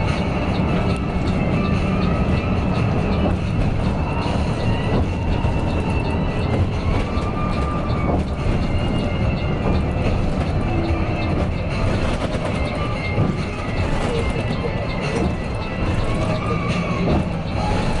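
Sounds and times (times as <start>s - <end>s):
bus engine and road rumble: 0.0s - 18.0s
faint rattles and ticks: 0.0s - 18.0s.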